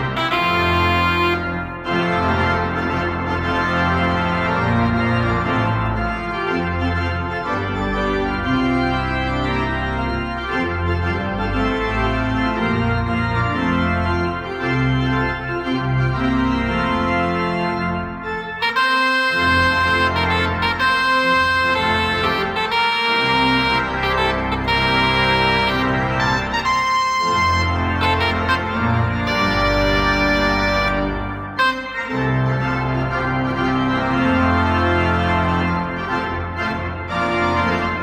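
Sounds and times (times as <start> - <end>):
organ playing a hymn: 0.0 - 38.0.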